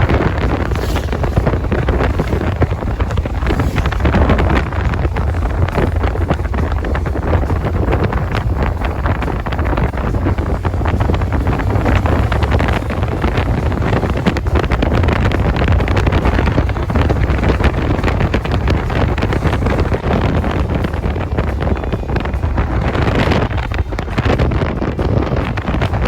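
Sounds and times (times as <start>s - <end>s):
motorcycle engine: 0.0s - 26.0s
road noise: 0.0s - 26.0s
wind buffeting microphone: 0.0s - 26.0s.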